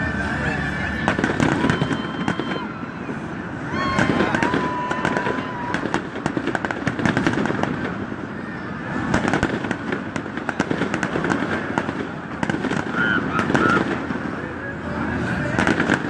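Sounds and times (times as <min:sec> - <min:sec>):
fireworks popping and crackling: 0:00.0 - 0:16.0.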